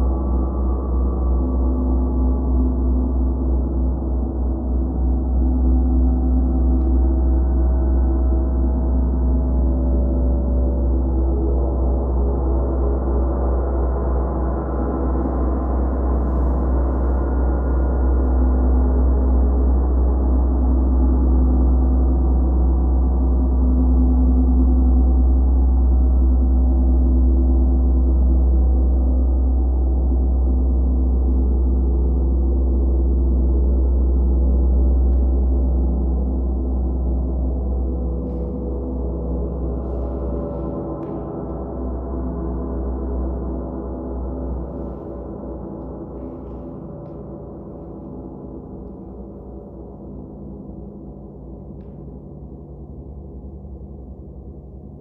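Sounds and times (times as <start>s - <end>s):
deep hum: 0.0s - 55.0s.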